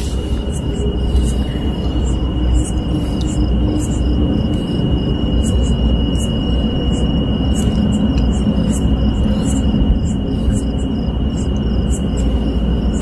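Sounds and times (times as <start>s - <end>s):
constant high whine: 0.0s - 13.0s
crickets chirping: 0.0s - 13.0s
loud steady rumbling: 0.0s - 13.0s.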